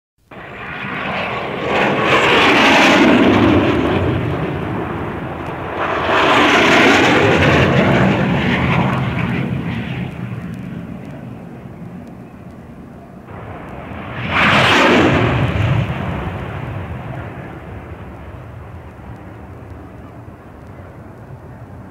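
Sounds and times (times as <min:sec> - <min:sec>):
jet aircraft passing low: 0:00.2 - 0:21.9.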